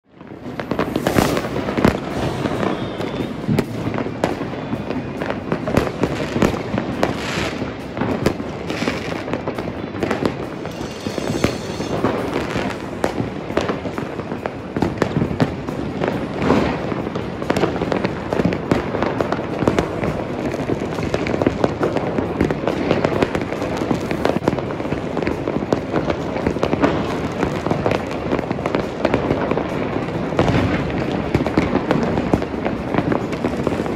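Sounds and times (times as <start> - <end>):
fireworks bangs and pops: 0.1 - 33.9.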